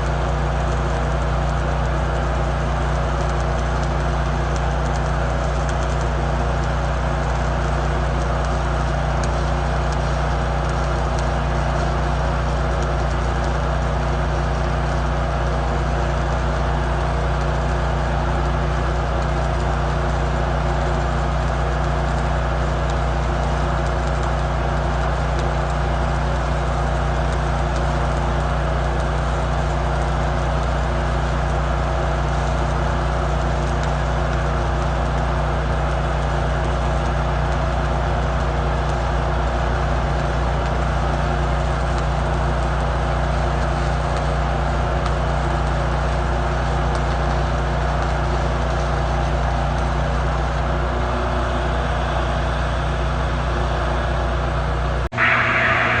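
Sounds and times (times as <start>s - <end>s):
welding arc crackling hiss: 0.0s - 52.9s, 55.1s - 56.0s.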